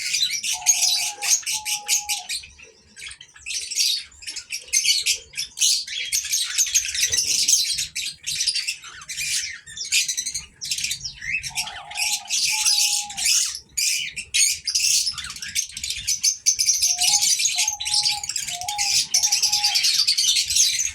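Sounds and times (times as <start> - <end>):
cockatiels chirping and chattering: 0.0 - 20.9.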